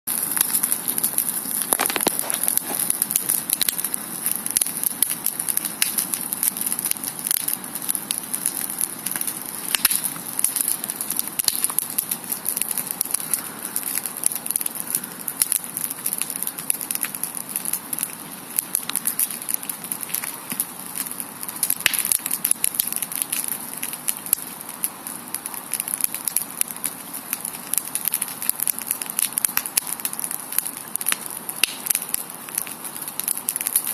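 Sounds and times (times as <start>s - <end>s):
campfire crackling: 0.1s - 33.9s
fire pops and snaps: 0.1s - 33.9s.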